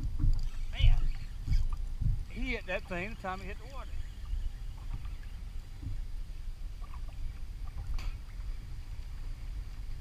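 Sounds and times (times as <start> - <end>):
wind and water rumble: 0.0 - 10.0.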